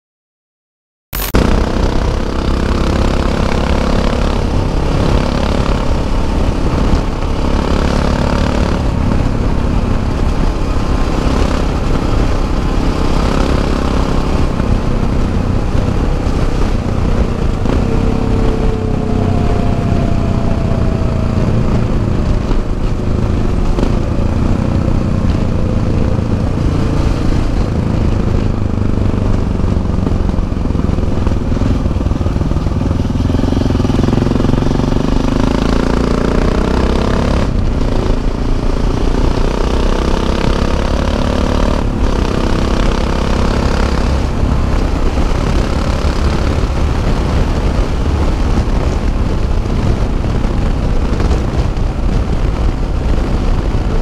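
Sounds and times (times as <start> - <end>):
motorcycle engine cruising: 1.2 - 54.0
wind noise: 1.2 - 54.0.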